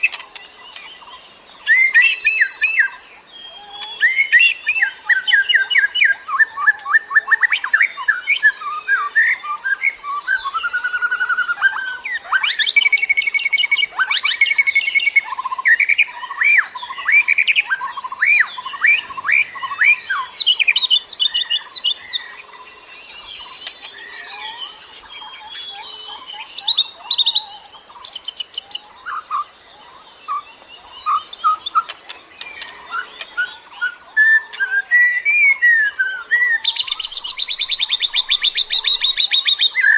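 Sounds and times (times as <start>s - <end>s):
bird chirps trills and whistles: 0.0s - 39.9s.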